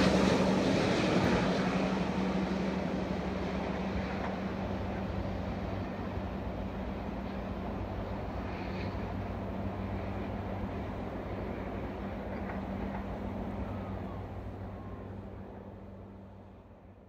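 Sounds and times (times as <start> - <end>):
diesel train engine drone: 0.0 - 17.0
wheel and rail rumble: 0.0 - 17.0.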